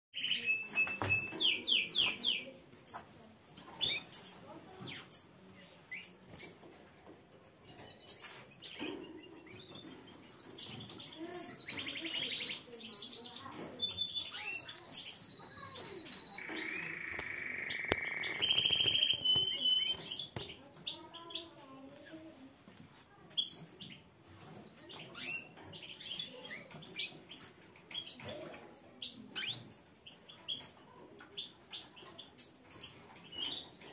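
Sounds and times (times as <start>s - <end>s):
canaries singing with trills: 0.2s - 22.4s, 23.3s - 33.9s.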